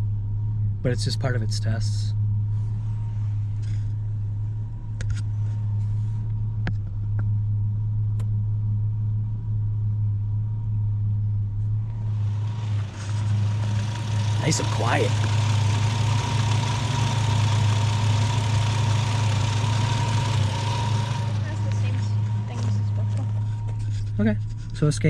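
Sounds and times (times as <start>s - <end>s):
pickup engine idling low: 0.0s - 25.0s.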